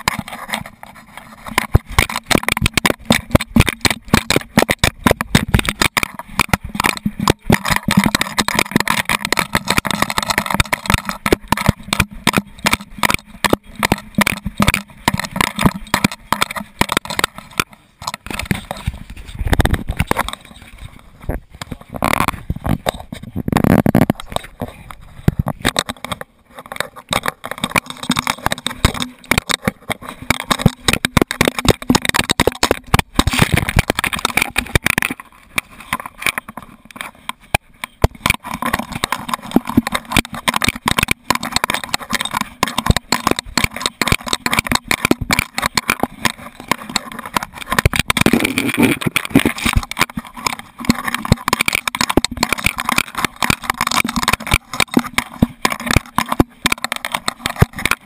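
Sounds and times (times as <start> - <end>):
camera knocking and rattling: 0.0 - 58.0.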